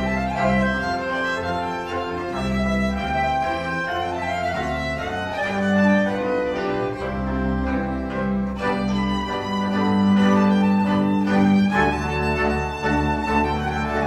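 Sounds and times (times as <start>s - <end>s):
bowed double bass notes: 0.0s - 14.0s
violin playing folk melody: 0.0s - 14.0s.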